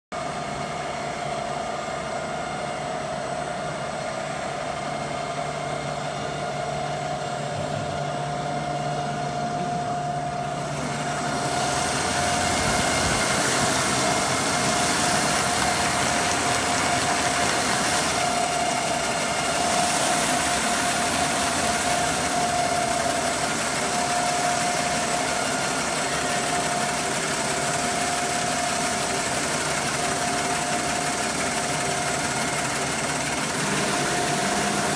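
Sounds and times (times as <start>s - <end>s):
sanding machine motor hum: 6.0s - 34.9s.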